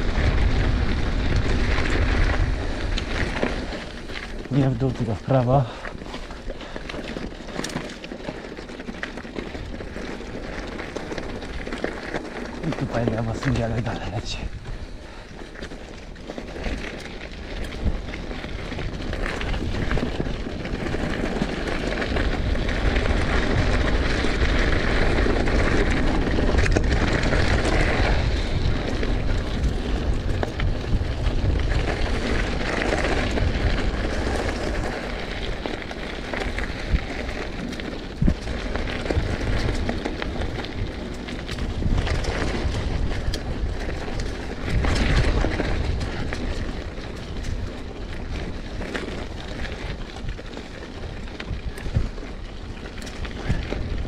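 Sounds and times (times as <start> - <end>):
wind buffeting microphone: 0.0 - 8.2, 9.4 - 54.0
bike tyres rolling on dirt: 0.0 - 54.0.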